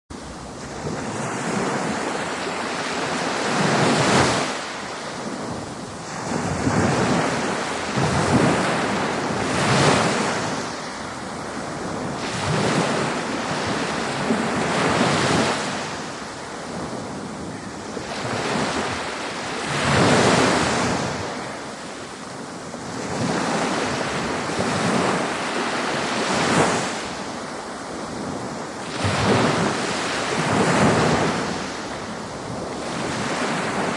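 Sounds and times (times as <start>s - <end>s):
ocean waves breaking on shore: 0.1s - 33.9s.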